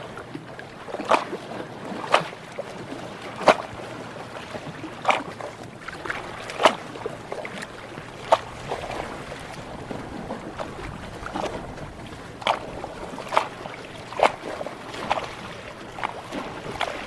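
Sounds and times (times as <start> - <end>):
ocean water lapping: 0.0 - 17.0
water slapping: 0.0 - 17.0.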